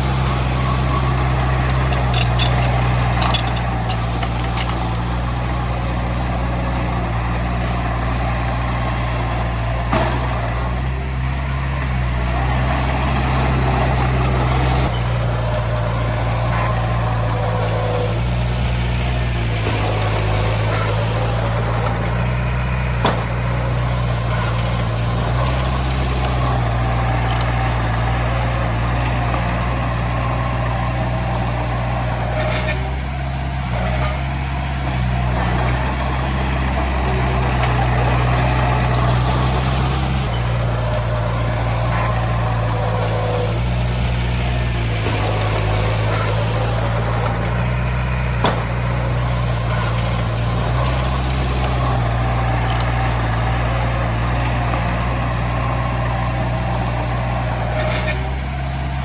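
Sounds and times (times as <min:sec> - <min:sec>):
sharp clanks: 0:00.0 - 0:08.2, 0:09.8 - 0:59.0
diesel engine droning: 0:00.0 - 0:59.0.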